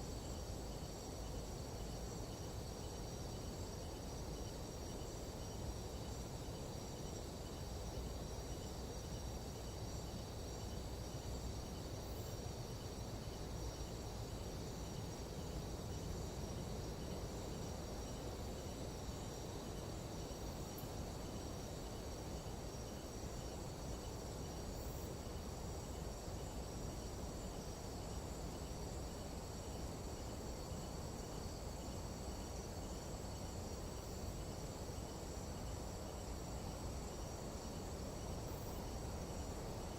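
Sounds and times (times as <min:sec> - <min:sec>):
high overlapping insect trills: 0:00.0 - 0:39.9
low background noise: 0:00.0 - 0:39.9
pulsing insect call: 0:00.0 - 0:39.9.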